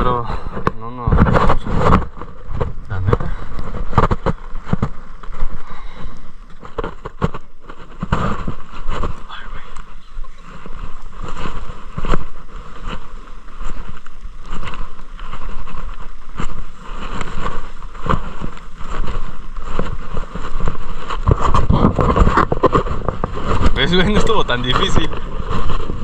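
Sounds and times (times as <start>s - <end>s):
scuffs and scrapes on loose ground: 0.0s - 26.0s
wind rumbling on microphone: 0.0s - 26.0s.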